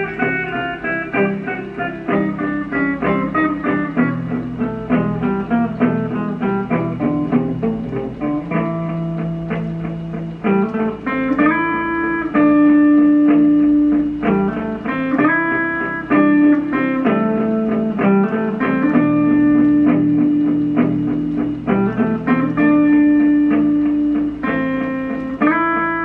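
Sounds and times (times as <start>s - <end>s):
electric guitar single-note lines: 0.0s - 26.0s.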